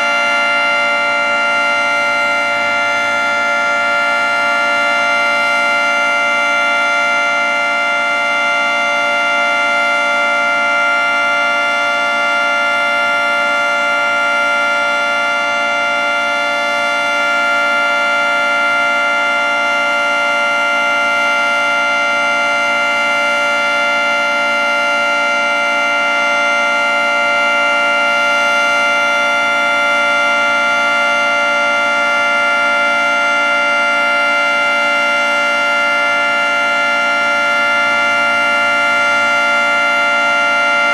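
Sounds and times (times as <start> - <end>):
warning siren multi-tone chord: 0.0 - 40.9.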